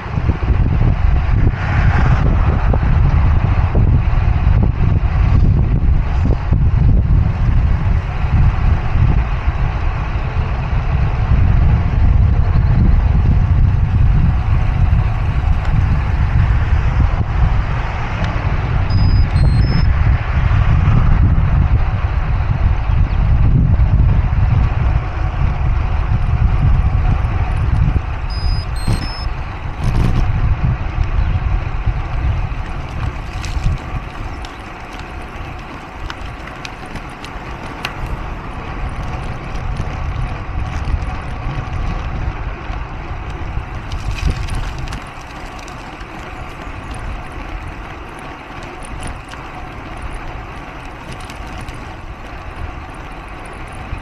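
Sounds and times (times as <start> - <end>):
low rumble of passing traffic: 0.0 - 54.0.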